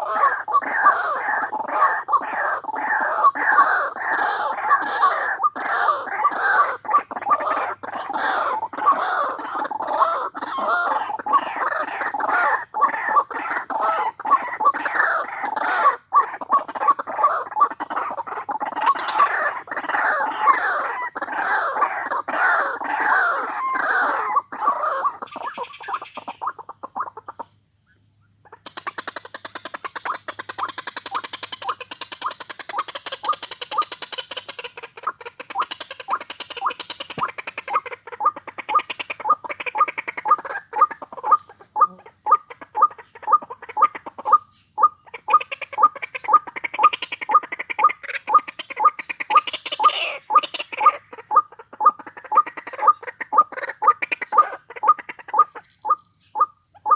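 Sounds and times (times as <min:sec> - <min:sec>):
bird harsh croaking calls: 0:00.0 - 0:56.9.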